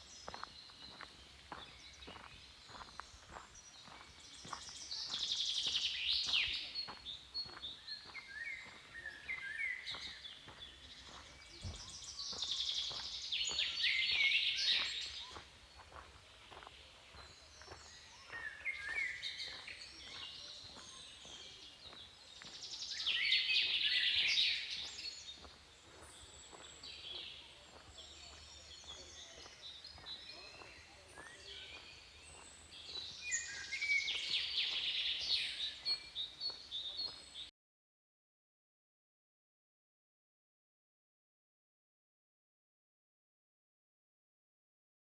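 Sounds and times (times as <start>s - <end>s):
songbirds singing and chirping: 0.0s - 37.5s.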